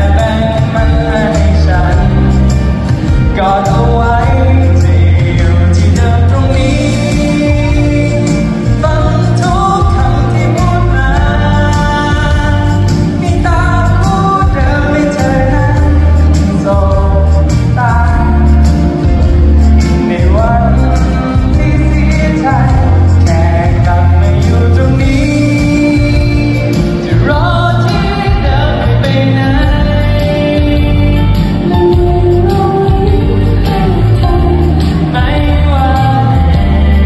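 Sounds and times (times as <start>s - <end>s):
backing track with bass line: 0.0s - 37.0s
person singing pop song: 0.0s - 37.0s.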